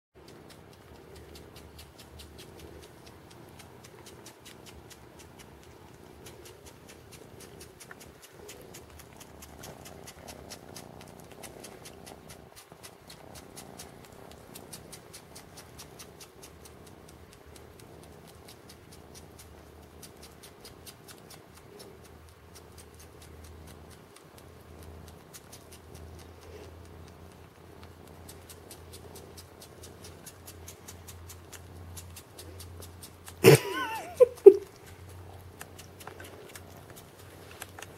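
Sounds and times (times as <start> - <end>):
kitten sucking clicks: 0.2 - 37.9.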